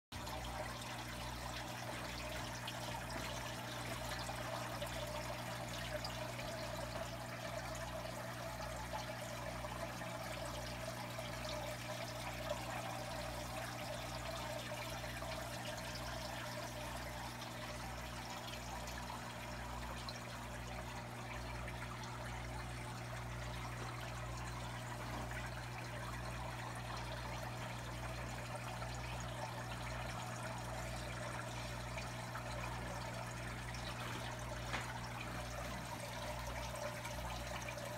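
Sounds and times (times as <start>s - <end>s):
air bubbles streaming: 0.2s - 37.9s
filter water trickling: 0.2s - 37.9s.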